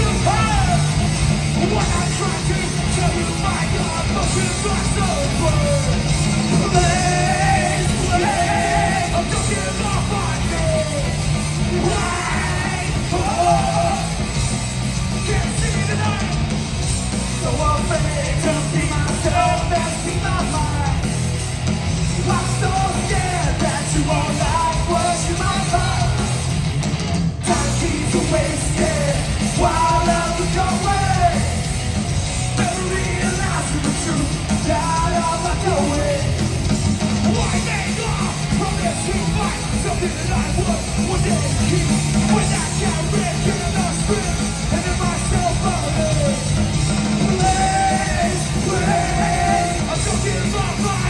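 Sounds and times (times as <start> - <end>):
shouted and sung vocals: 0.0 - 14.4, 15.1 - 16.5, 17.4 - 21.1, 22.1 - 26.4, 27.4 - 31.8, 32.5 - 36.5, 37.2 - 51.0
live punk rock band: 0.0 - 51.0.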